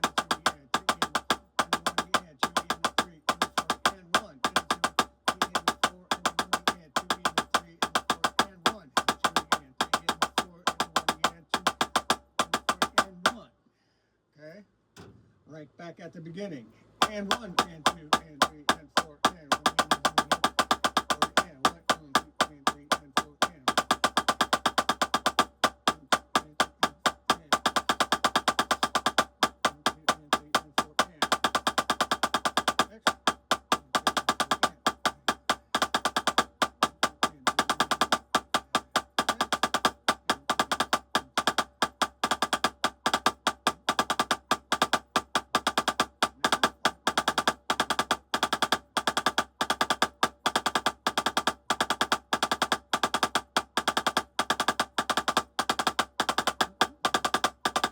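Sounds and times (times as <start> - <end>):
drumsticks playing a drum: 0.0 - 13.4, 17.0 - 57.9.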